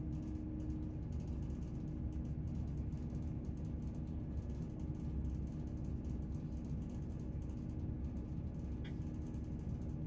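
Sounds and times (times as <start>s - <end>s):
train diesel engine drone: 0.0s - 10.0s.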